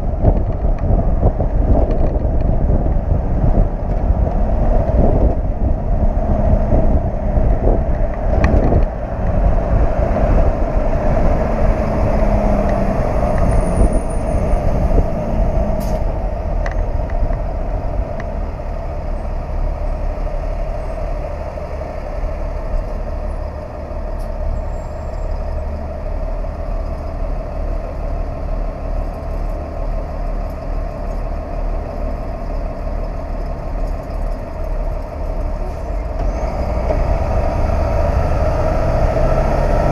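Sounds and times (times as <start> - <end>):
truck engine tyres and wind: 0.0 - 39.9.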